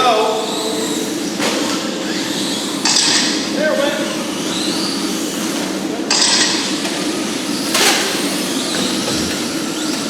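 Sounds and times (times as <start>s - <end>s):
rc trucks motors whirring: 0.3s - 10.0s.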